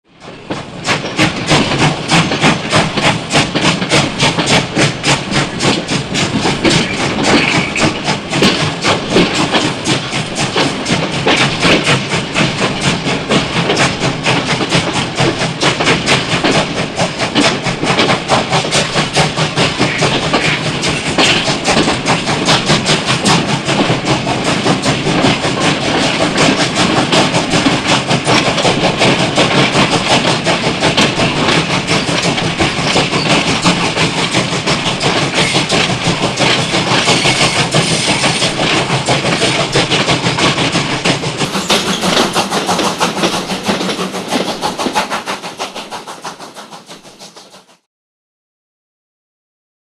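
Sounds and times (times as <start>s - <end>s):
steam train chuffing and clattering: 0.1s - 47.9s.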